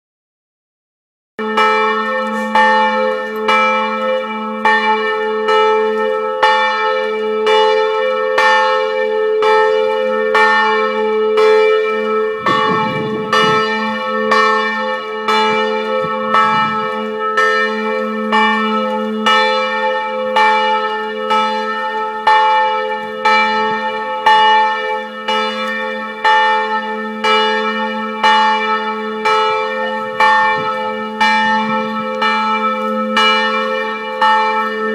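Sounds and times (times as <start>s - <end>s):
church bells ringing: 1.4s - 34.9s
low hum of bells: 1.4s - 34.9s.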